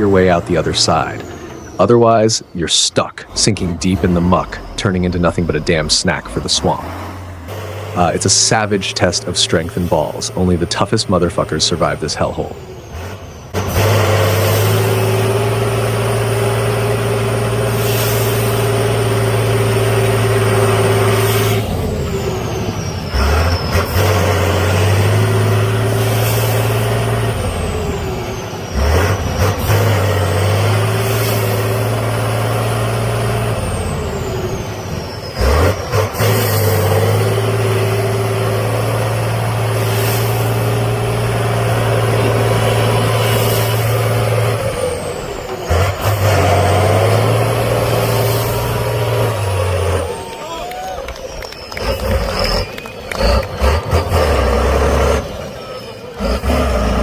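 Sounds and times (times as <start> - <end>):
truck engines revving high: 0.0 - 57.0.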